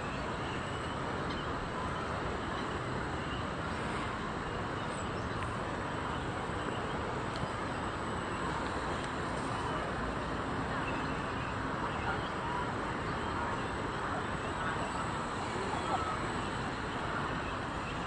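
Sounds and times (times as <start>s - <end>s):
distant city traffic: 0.0s - 18.0s.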